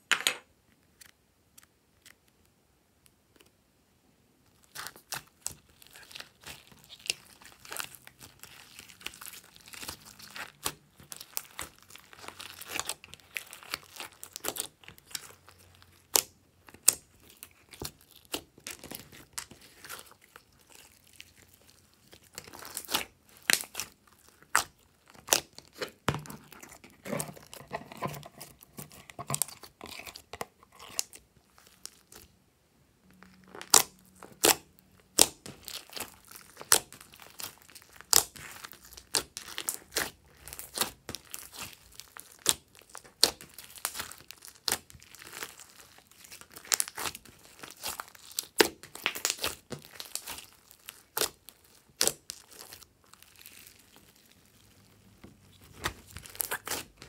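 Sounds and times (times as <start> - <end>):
hands squishing slime: 4.5 - 32.3, 33.4 - 57.0.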